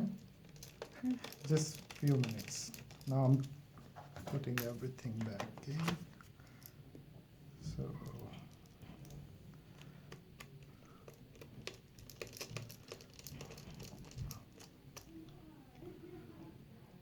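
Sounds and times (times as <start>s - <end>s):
faint low hum: 0.0s - 17.0s
light clicks and rustling: 0.2s - 6.8s, 7.7s - 15.9s.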